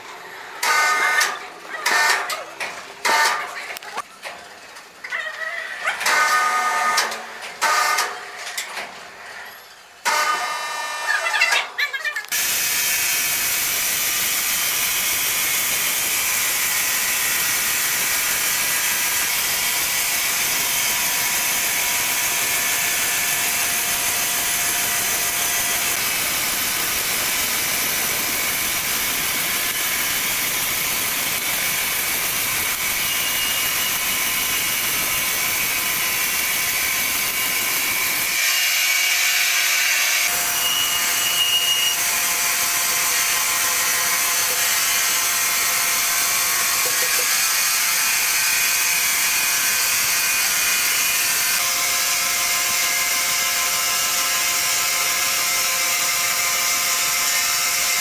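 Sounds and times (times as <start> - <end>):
saw cutting through log: 5.8 - 8.1, 10.0 - 58.0.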